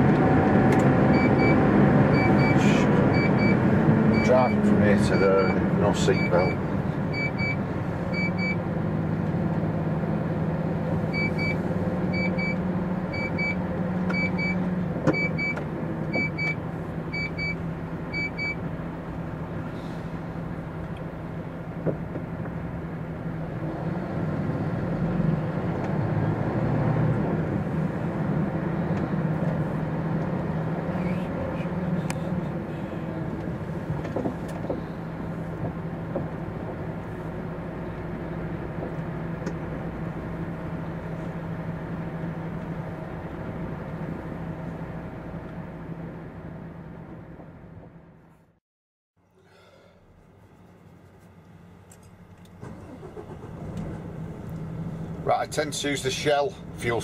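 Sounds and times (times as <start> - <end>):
lorry diesel engine running: 0.0 - 48.5, 49.2 - 57.0.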